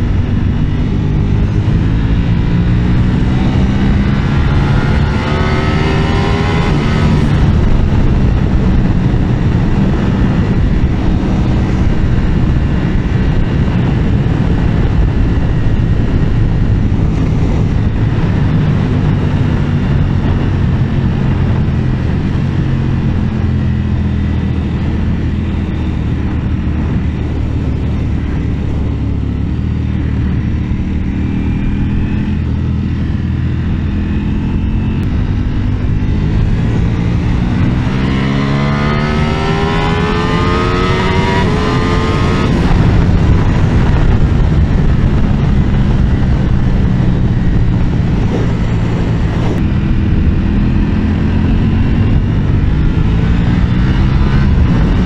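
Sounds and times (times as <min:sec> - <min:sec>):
motorcycle engine running hard: 0:00.0 - 0:55.0
wind rush: 0:00.0 - 0:55.0.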